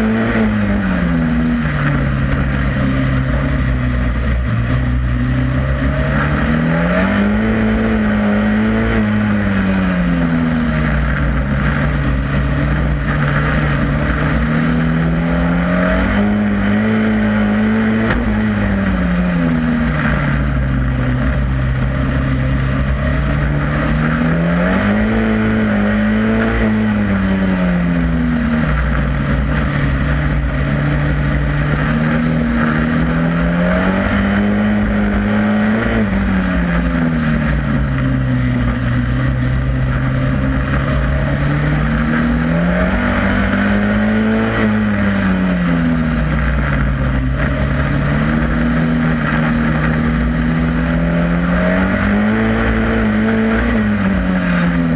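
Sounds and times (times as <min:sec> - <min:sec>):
racing car engine: 0:00.0 - 0:54.9.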